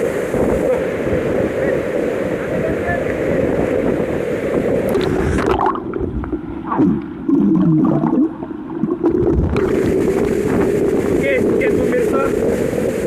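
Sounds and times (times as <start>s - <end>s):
wind noise: 0.0s - 8.2s, 8.8s - 13.0s
river water gurgling: 0.0s - 13.0s.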